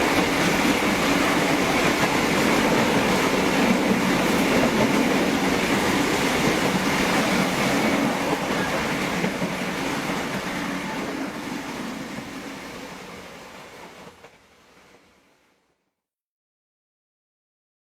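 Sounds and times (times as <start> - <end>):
train rumbling on rails: 0.0 - 15.3.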